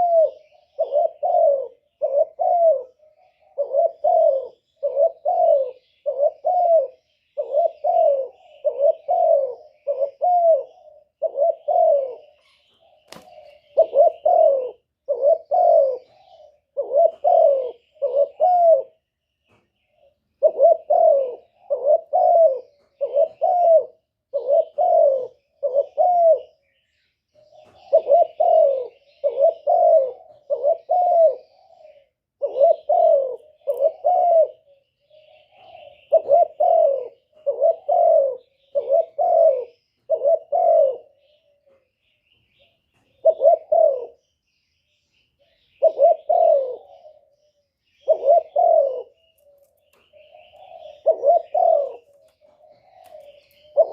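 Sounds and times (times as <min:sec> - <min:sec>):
dove cooing: 0:00.0 - 0:53.9
small birds chirping: 0:00.0 - 0:53.9.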